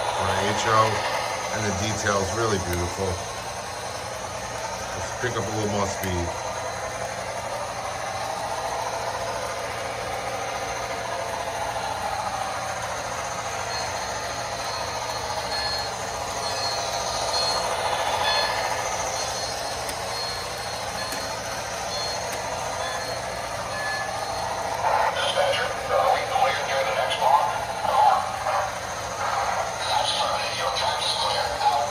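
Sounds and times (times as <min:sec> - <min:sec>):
diesel engine sound effect: 0:00.0 - 0:31.9
model train wheels rolling on track: 0:00.0 - 0:31.9.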